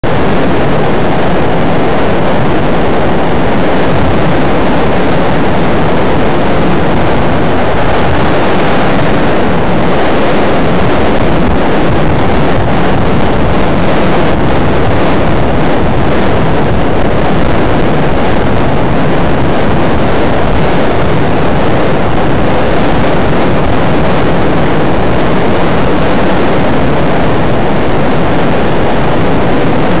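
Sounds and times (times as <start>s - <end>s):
rushing wind: 0.0s - 30.0s.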